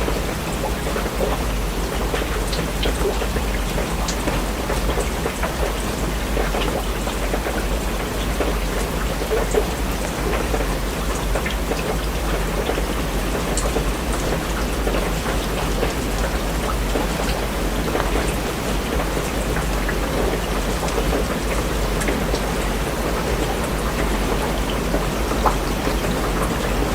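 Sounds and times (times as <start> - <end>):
rain falling on a surface: 0.0 - 26.9.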